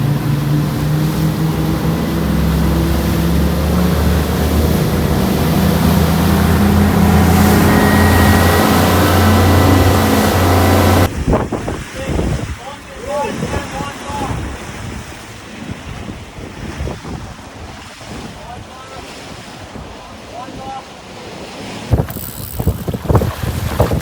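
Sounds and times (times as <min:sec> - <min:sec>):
outboard engines droning: 0:00.0 - 0:11.2, 0:12.8 - 0:24.0
water rushing: 0:00.0 - 0:24.0
waves: 0:00.0 - 0:24.0
wind: 0:00.0 - 0:24.0.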